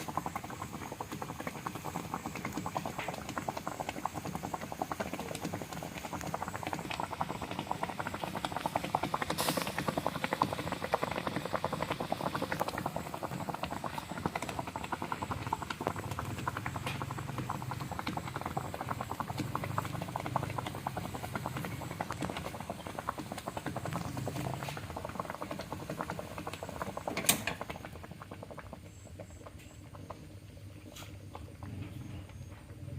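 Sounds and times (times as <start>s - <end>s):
food frying in a pan: 0.0s - 32.9s.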